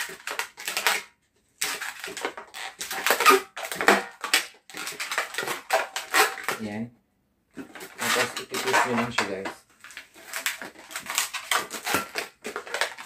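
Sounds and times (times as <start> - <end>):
balloons squeaking and rubbing: 1.6 - 6.6, 7.6 - 13.0.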